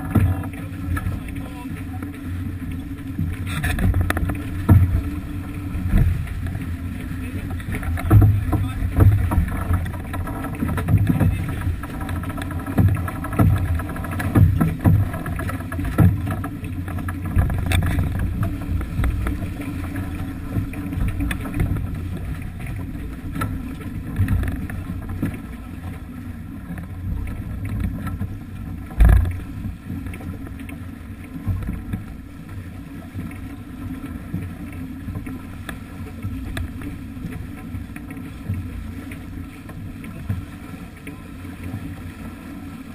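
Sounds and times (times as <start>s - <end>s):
water rushing past hull: 0.0s - 42.9s.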